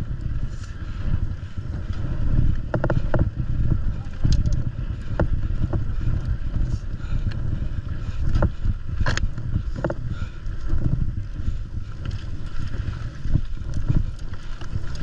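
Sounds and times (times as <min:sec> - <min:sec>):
bike clicks: 0:00.0 - 0:15.0
wind buffeting microphone: 0:00.0 - 0:15.0.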